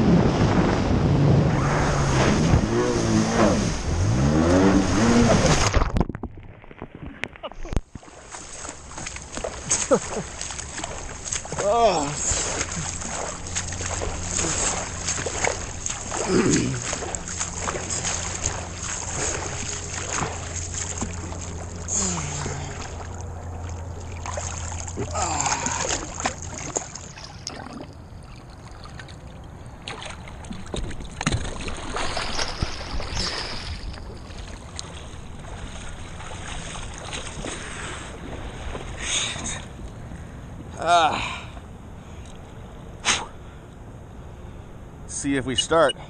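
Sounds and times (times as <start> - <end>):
water splashing against hull: 0.0 - 40.0
low steady hum: 0.0 - 46.0.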